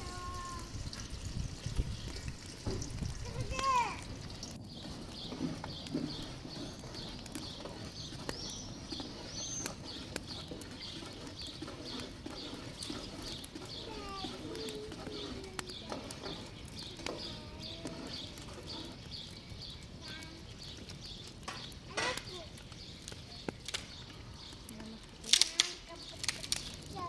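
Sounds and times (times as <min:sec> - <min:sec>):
birds chirping: 0:00.0 - 0:27.0
wood fire crackling: 0:00.0 - 0:27.0.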